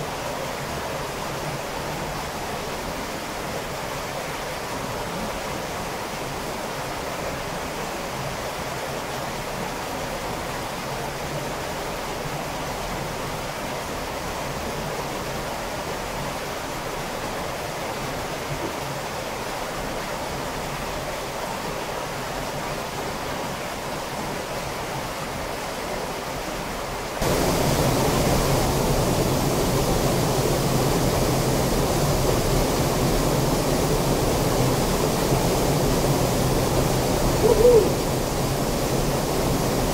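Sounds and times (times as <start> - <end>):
rushing stream in a cave: 0.0 - 39.9
waterfall pouring into a pool: 0.0 - 39.9.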